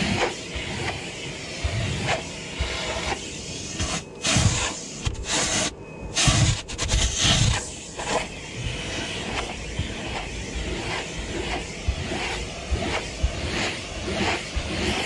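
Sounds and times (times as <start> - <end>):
vacuum hose sucking air: 0.0 - 15.0.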